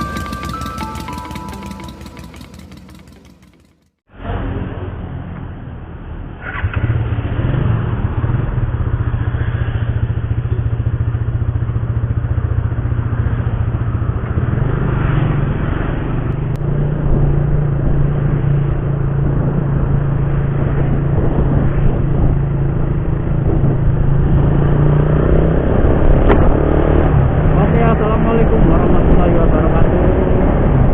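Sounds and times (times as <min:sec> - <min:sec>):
motorcycle engine running: 0:00.0 - 0:04.7, 0:06.6 - 0:30.9.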